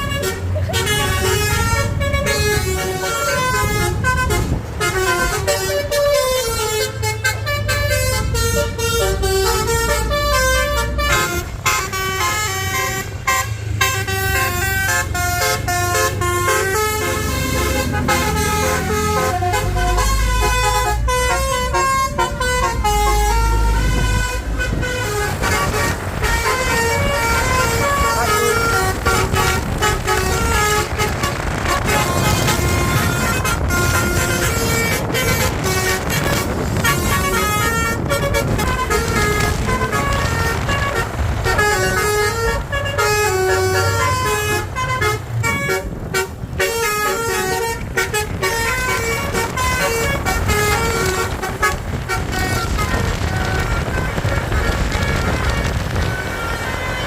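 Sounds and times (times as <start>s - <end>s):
bus engine rumbling: 0.0s - 57.0s
multi-tone bus horn melody: 0.0s - 57.0s.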